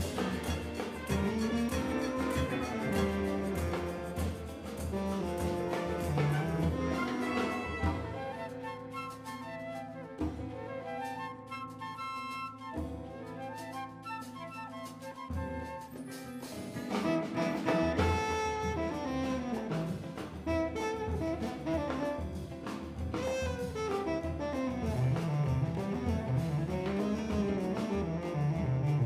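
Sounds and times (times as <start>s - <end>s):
latin jazz band playing: 0.0s - 29.0s
woodwind melody: 0.0s - 29.0s.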